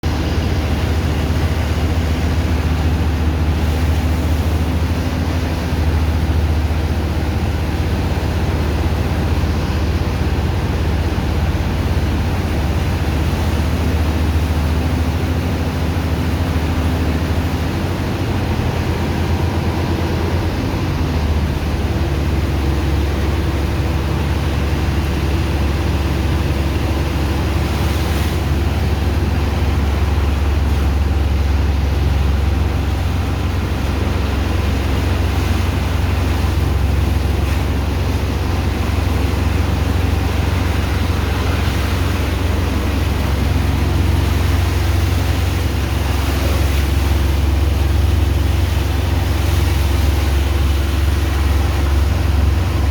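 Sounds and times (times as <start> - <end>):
engine and pump drone: 0.0 - 52.9
water rushing: 0.0 - 52.9.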